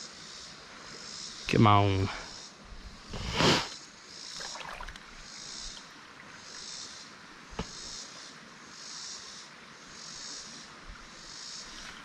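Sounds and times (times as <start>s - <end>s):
insects buzzing in pulses: 0.0s - 12.0s.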